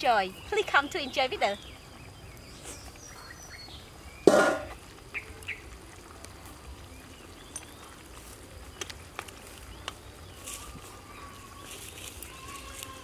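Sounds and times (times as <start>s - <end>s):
high insect hum: 0.0s - 13.0s.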